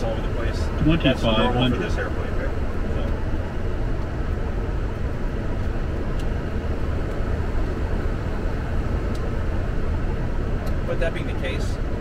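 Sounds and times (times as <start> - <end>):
aircraft cockpit engine rumble: 0.0 - 12.0.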